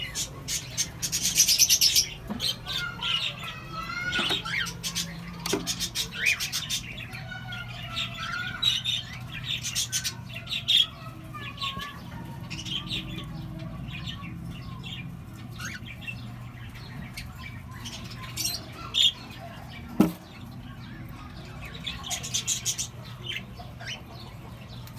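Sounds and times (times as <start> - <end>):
cockatiels chirping and squawking: 0.0 - 24.9.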